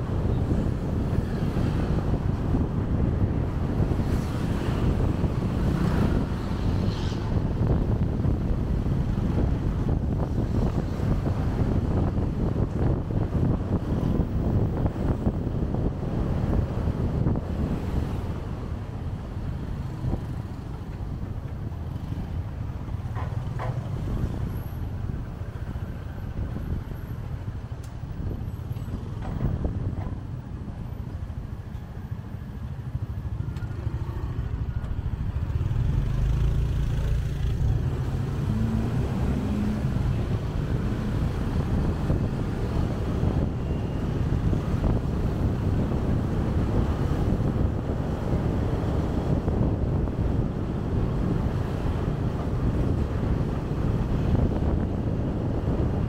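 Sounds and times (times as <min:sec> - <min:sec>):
traffic noise: 0:00.0 - 0:56.0
wind on microphone: 0:00.0 - 0:56.0.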